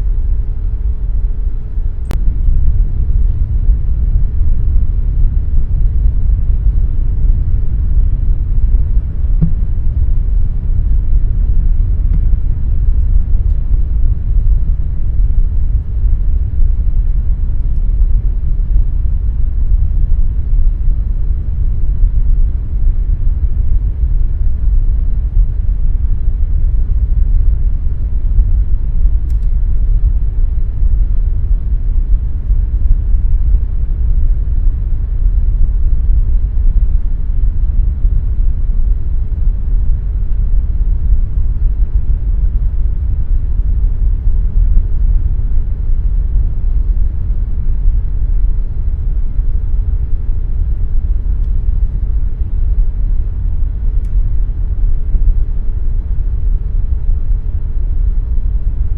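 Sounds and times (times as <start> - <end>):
air conditioner running: 0.0 - 58.9.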